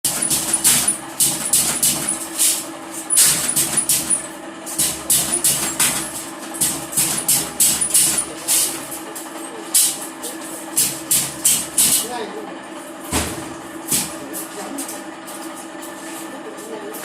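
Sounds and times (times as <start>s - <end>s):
steady electrical hum: 0.1s - 17.0s.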